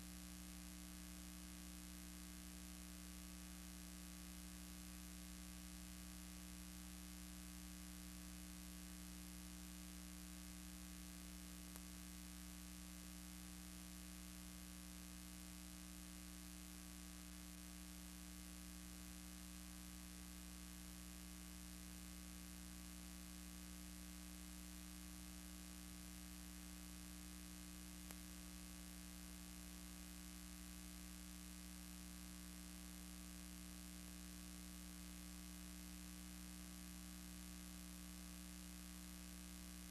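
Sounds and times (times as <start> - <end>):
low electrical hum with hiss: 0.0 - 39.9.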